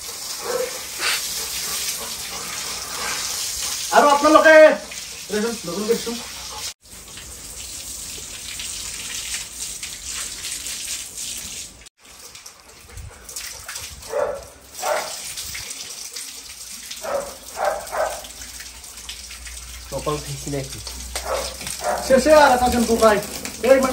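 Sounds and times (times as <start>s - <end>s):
hose water splashing on concrete: 0.0s - 23.9s.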